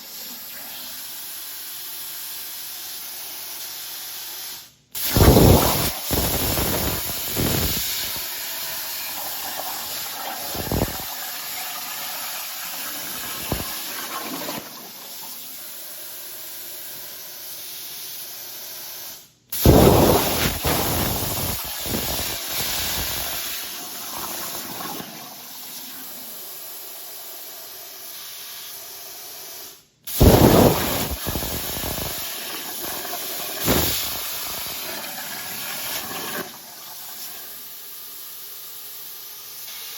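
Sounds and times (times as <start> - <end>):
plasma cutter hissing and crackling: 0.0 - 14.1, 15.0 - 39.9.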